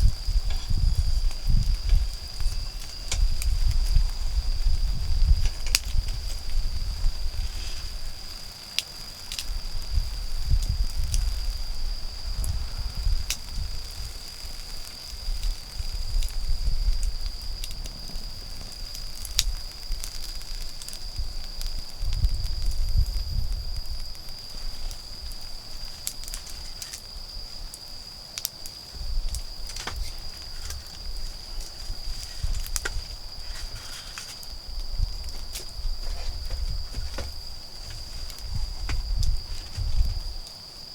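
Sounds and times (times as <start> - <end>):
campfire crackling and popping: 0.0 - 40.6
insects trilling: 0.0 - 40.9.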